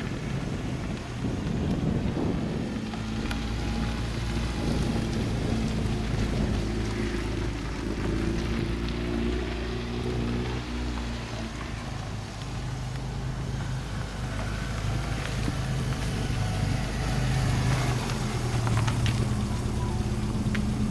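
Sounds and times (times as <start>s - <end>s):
car engine at low revs: 0.0s - 20.9s.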